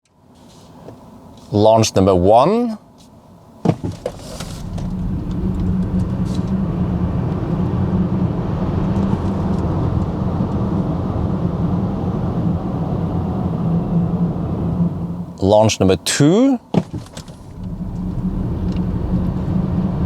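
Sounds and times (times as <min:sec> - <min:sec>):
car cabin low rumble: 0:03.4 - 0:20.0.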